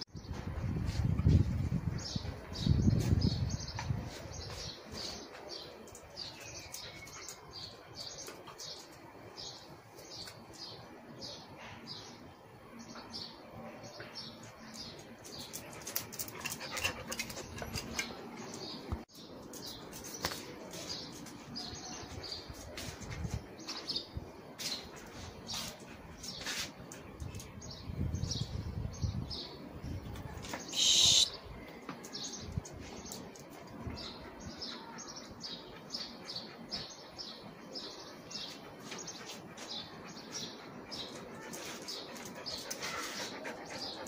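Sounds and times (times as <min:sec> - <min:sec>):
small birds chirping: 0:00.1 - 0:44.0.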